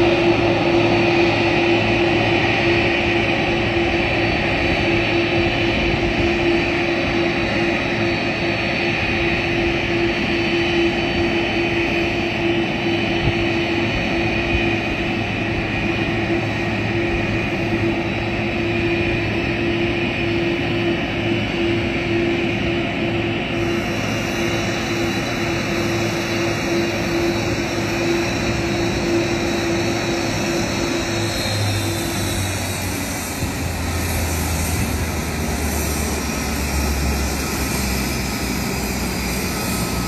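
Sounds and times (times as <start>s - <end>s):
jet engines whining: 0.0s - 40.0s.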